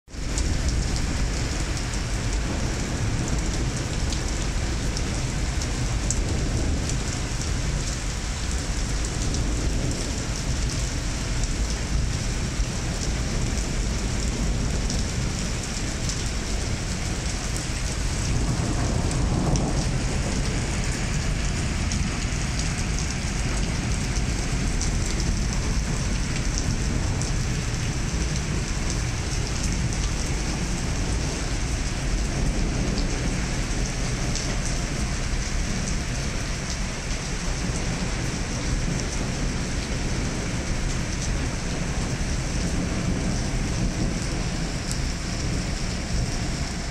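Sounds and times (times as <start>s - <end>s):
rain on paving and road: 0.1s - 46.9s.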